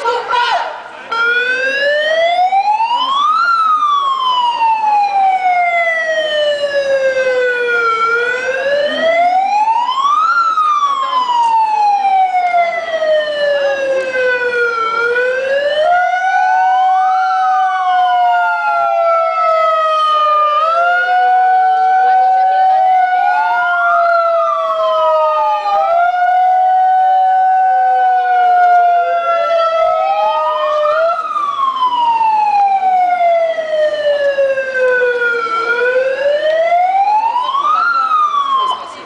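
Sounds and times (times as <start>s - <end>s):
electronic wailing siren: 1.1s - 39.0s.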